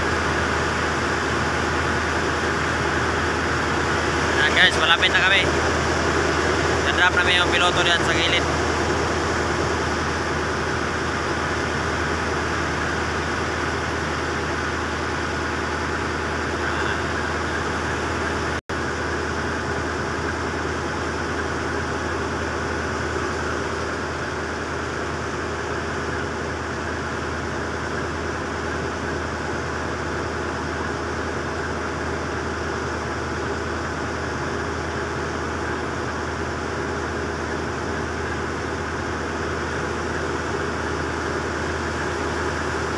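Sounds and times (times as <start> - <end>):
boat engine droning: 0.0 - 42.9.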